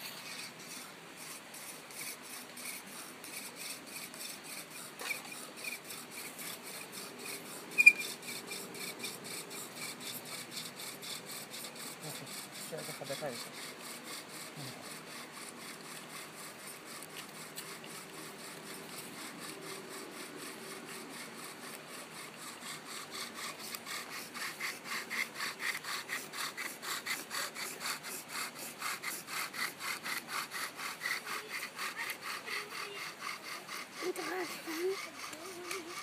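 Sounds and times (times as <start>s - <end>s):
bow drill rasping on wood: 0.0s - 36.0s.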